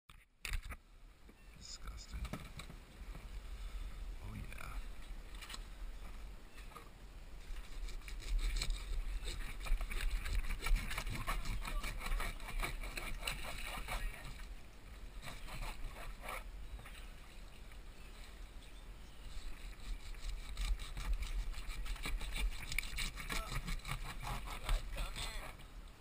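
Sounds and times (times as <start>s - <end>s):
wind and water rumble: 0.4s - 26.0s.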